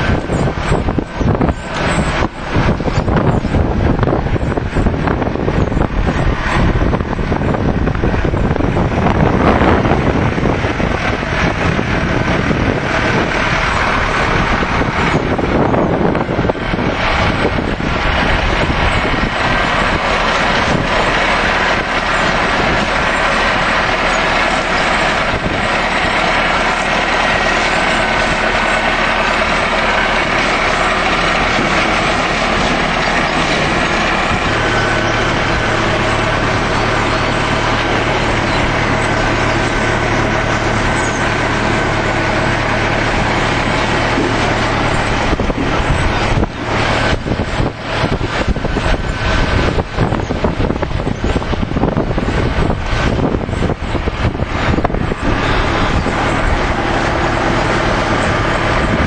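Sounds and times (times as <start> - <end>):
engine running: 0.0 - 59.0
harvester conveyors rattling: 0.0 - 59.0.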